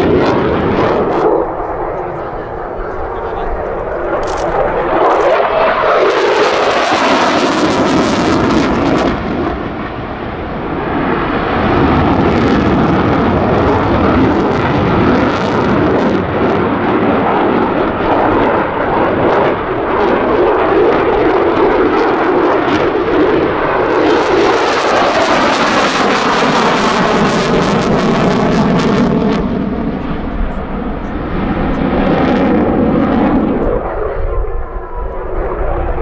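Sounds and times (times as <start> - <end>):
fighter jet engine roaring overhead: 0.0 - 36.0.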